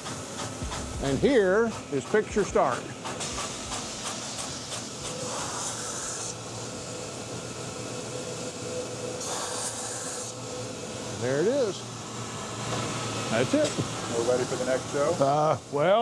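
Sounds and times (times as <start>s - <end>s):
film projector whirring: 0.0s - 16.0s.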